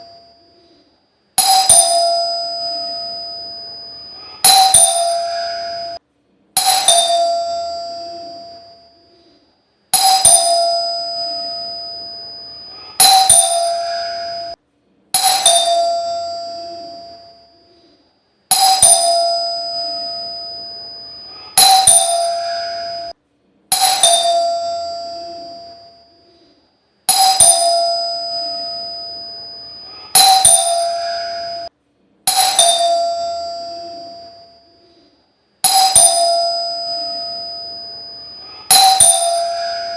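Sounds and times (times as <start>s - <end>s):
calling bell ringing: 0.0s - 0.8s, 1.4s - 6.0s, 6.6s - 14.6s, 15.2s - 26.5s, 27.1s - 31.7s, 32.3s - 39.9s.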